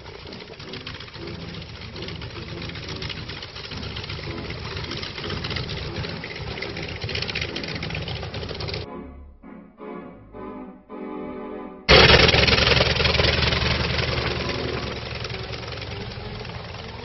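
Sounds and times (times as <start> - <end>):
piston aircraft engine running: 0.0 - 8.9, 11.9 - 17.0.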